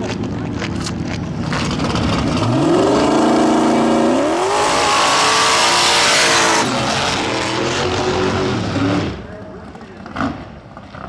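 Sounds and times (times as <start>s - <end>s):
race car engine revving: 0.9s - 11.0s.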